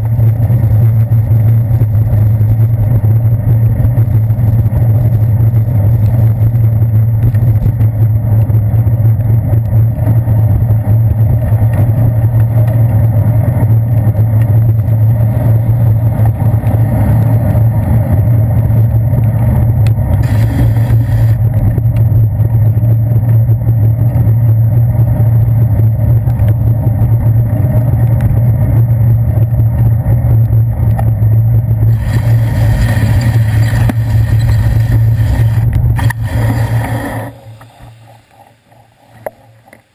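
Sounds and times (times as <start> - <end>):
bicycle road rumble: 0.0 - 39.9.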